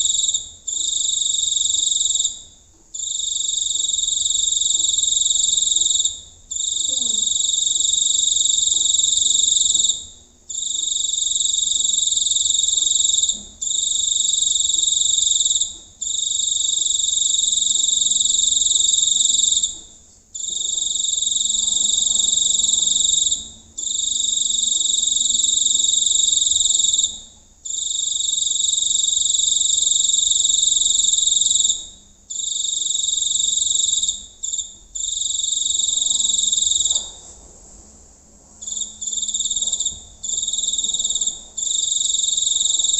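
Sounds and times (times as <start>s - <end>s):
cricket chirping trill: 0.0s - 37.3s, 38.6s - 42.9s.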